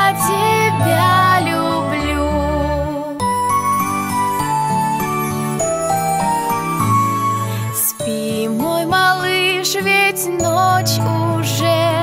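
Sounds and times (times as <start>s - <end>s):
instrumental lullaby music: 0.0s - 12.0s.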